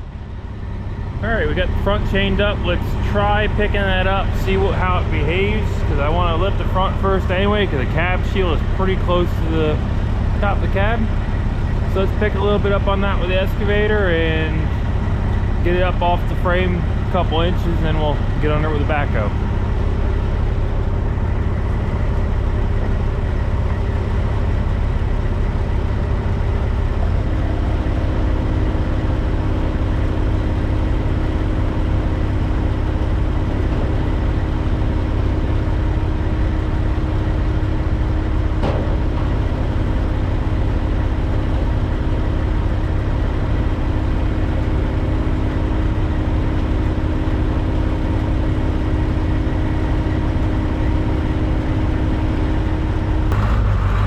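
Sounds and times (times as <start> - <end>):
diesel engine droning: 0.0 - 54.0
steady hum: 0.0 - 54.0.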